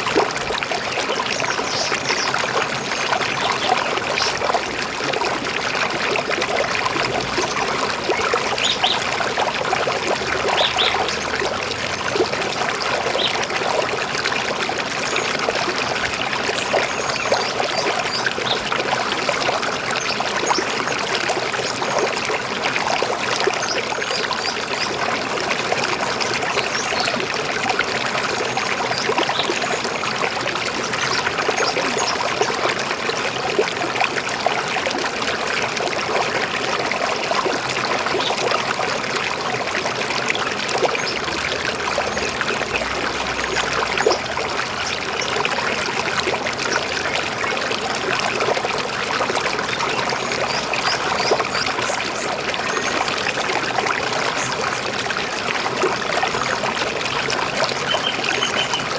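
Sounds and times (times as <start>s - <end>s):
river water babbling over stones: 0.0s - 58.9s.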